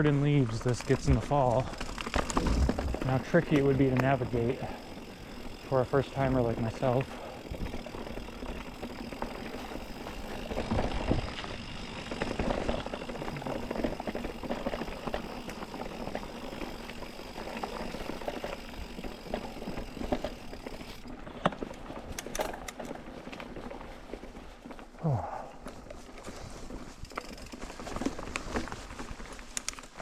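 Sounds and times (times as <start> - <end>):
bike chain and frame rattling: 0.0 - 30.0
tyres rolling on dirt trail: 0.0 - 30.0.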